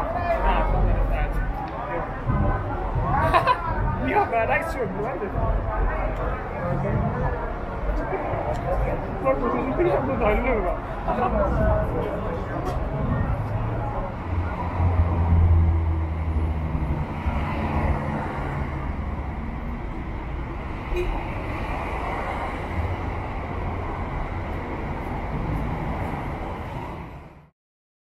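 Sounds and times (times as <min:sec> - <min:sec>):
vehicle engine humming: 0:00.0 - 0:27.3
city background noise: 0:00.0 - 0:27.5.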